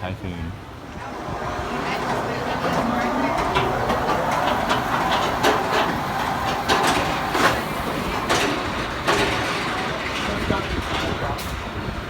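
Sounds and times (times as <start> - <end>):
roller coaster rumbling on track: 0.0 - 12.0
roller coaster clacks and knocks: 0.6 - 12.0.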